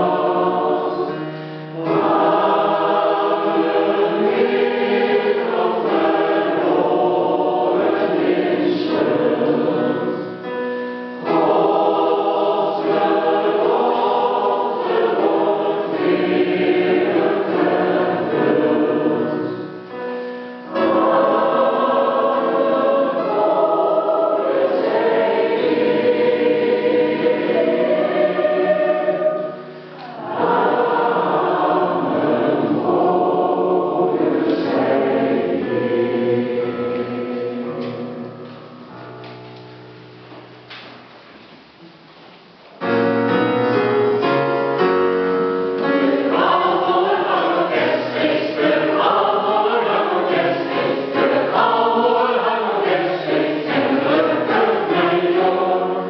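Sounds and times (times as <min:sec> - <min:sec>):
mixed choir singing: 0:00.0 - 0:38.5, 0:45.0 - 0:56.0.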